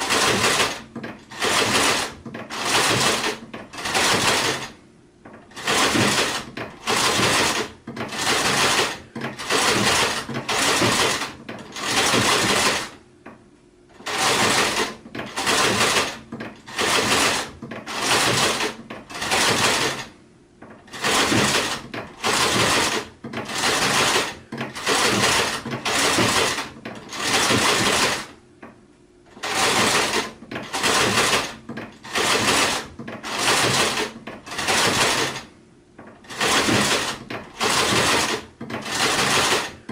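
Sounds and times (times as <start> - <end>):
sewing machine stitching: 0.0 - 13.0, 13.9 - 28.4, 29.3 - 39.9.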